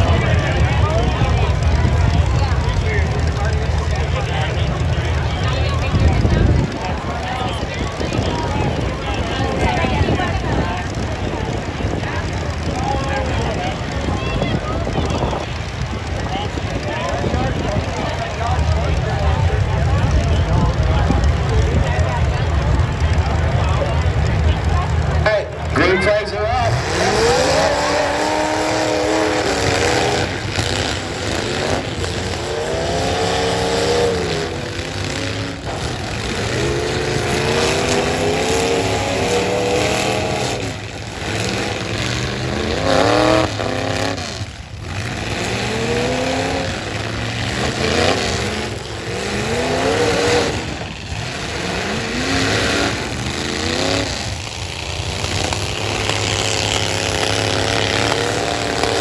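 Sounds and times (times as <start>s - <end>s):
pickup truck engines revving: 0.0s - 59.0s.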